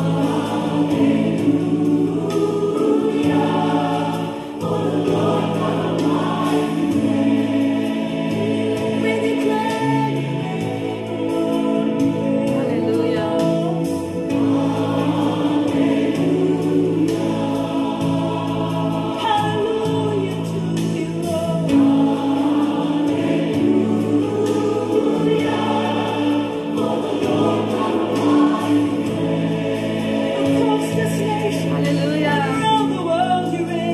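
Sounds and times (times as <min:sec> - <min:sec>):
choir singing gospel: 0:00.0 - 0:33.9.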